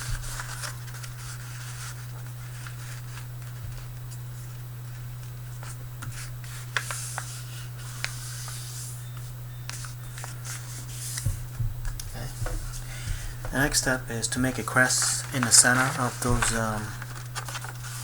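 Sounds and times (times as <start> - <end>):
paper being folded: 0.0 - 18.0
steady low hum: 0.0 - 18.0.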